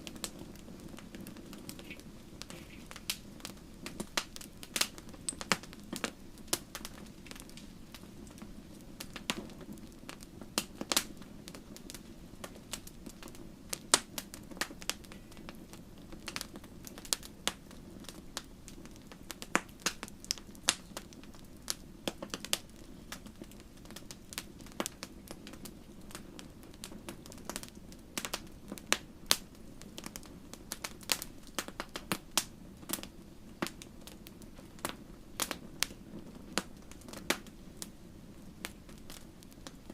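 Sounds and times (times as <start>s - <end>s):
soft rush of burning: 0.0s - 39.9s
wood fire popping and snapping: 0.0s - 39.9s.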